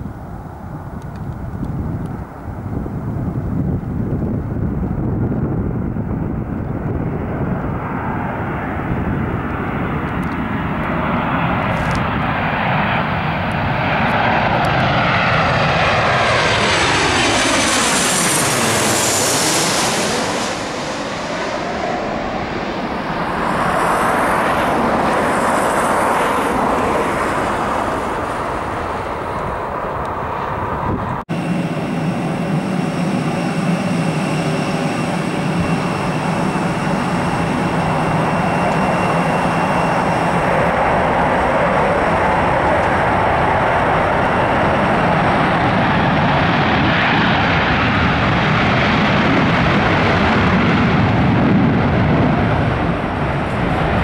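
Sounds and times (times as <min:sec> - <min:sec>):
jet airliner roaring overhead: 0:00.0 - 0:54.0.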